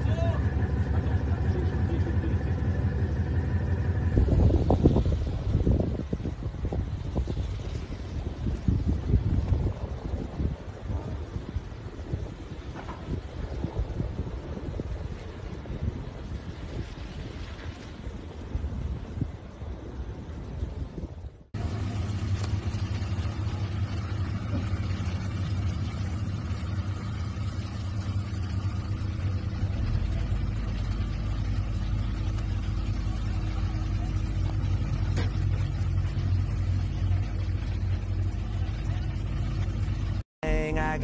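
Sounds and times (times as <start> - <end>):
wind rumbling on microphone: 0.0 - 40.2
low engine-like drone: 0.0 - 41.0.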